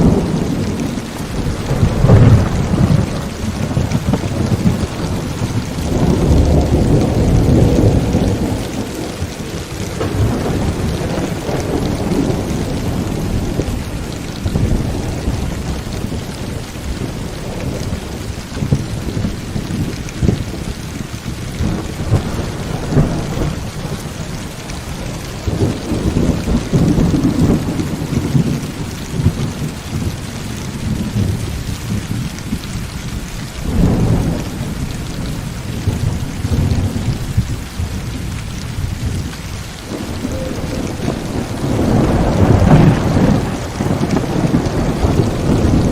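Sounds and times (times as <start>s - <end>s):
heavy rain falling: 0.0s - 45.9s
rolling thunder: 0.0s - 45.9s.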